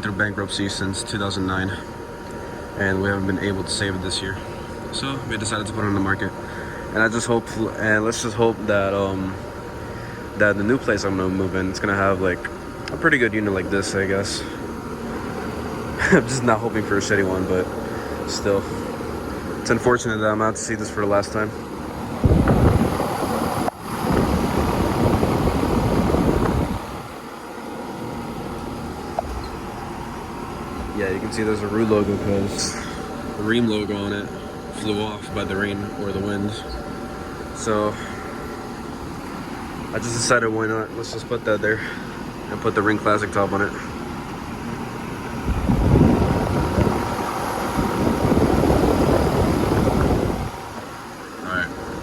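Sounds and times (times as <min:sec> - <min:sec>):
air conditioner condenser whirring: 0:00.0 - 0:52.0.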